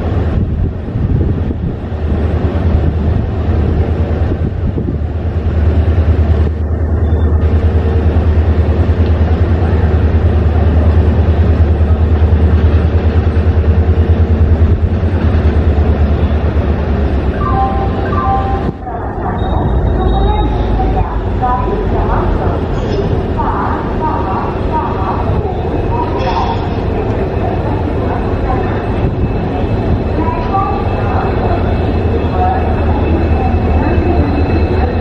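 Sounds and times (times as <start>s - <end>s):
diesel locomotive engine drone: 0.0s - 35.0s.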